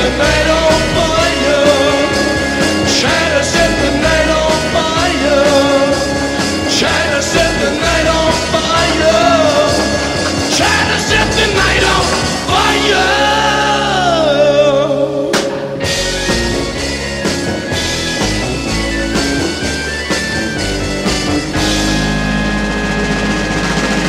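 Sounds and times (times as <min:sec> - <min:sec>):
psychedelic rock band playing: 0:00.0 - 0:24.0.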